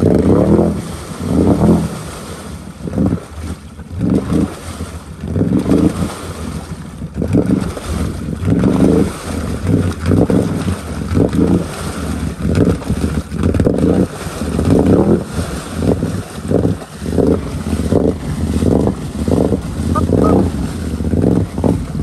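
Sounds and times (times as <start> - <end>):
atv engine revving: 0.0 - 22.0
vehicle churning through mud and water: 0.0 - 22.0.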